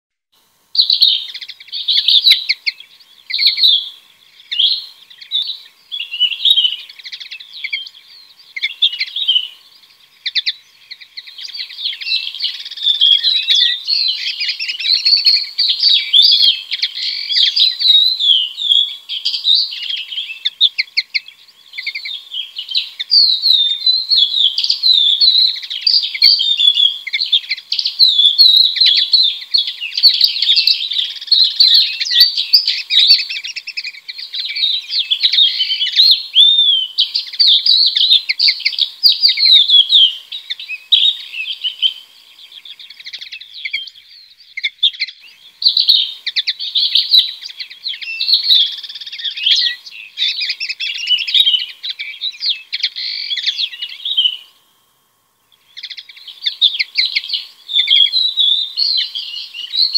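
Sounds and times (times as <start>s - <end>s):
birds chirping: 0.4s - 59.9s.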